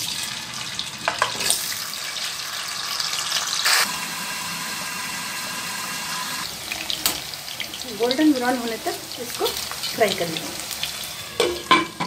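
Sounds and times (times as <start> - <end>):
potato slices frying in oil: 0.0 - 12.0.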